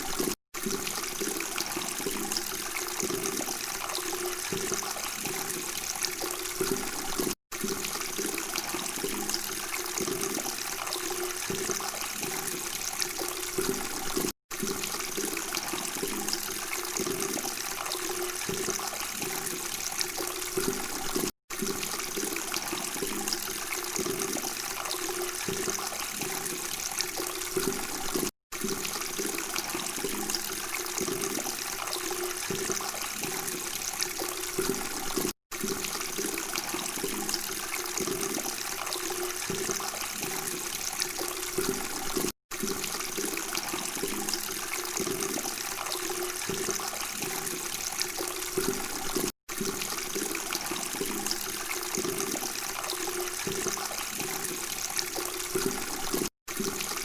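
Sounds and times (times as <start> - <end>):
water running and gurgling: 0.0 - 57.0.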